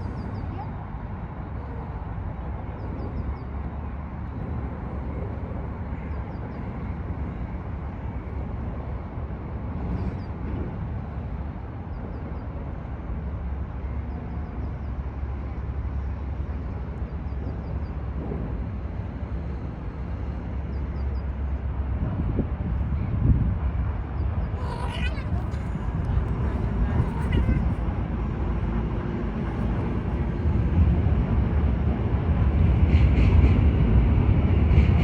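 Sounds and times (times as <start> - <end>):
low background rumble: 0.0 - 32.9.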